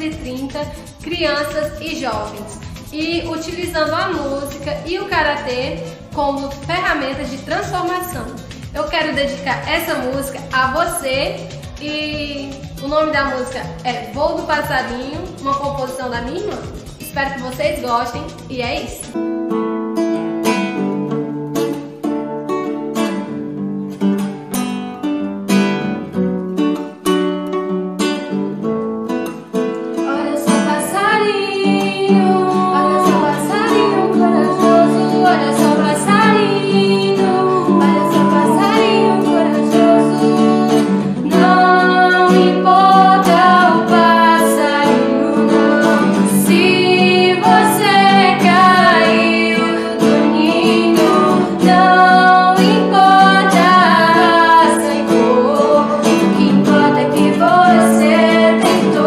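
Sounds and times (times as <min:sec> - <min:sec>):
women singing together: 0:00.0 - 0:19.1, 0:30.1 - 0:59.0
nylon-string acoustic guitar: 0:00.0 - 0:59.0.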